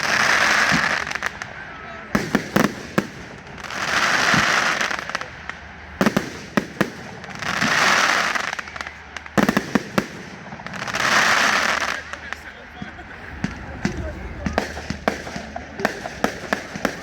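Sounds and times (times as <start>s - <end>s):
fireworks bangs: 0.0s - 17.0s
fireworks hiss: 0.0s - 17.0s.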